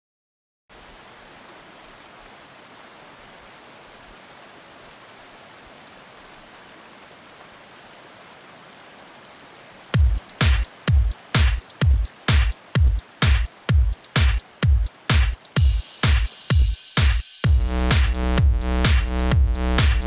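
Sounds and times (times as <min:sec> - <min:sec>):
river rushing: 0:00.7 - 0:17.4.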